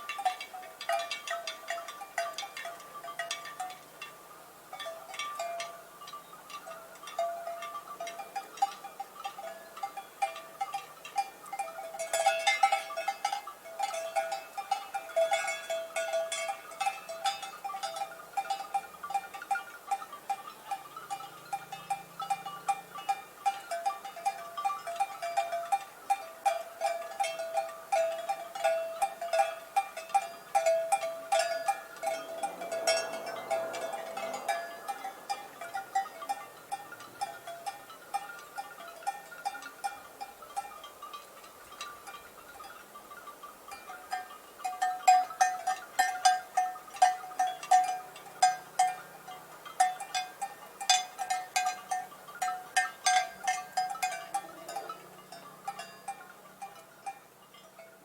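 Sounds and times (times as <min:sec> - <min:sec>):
cowbells clanking: 0:00.0 - 0:58.0.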